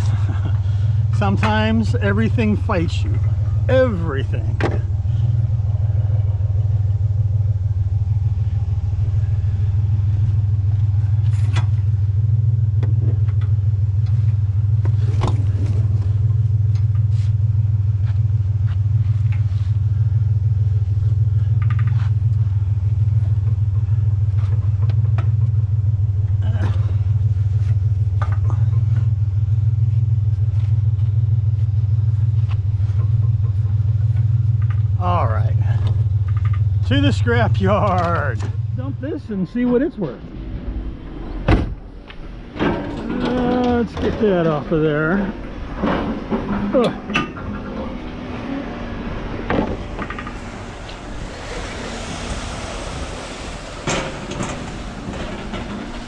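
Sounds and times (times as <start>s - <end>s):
truck engine rumbling: 0.0s - 56.0s.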